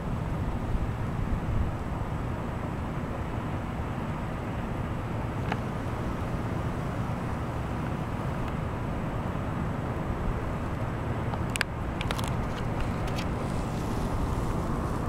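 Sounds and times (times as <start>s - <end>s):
shoreline rumble: 0.0s - 15.0s.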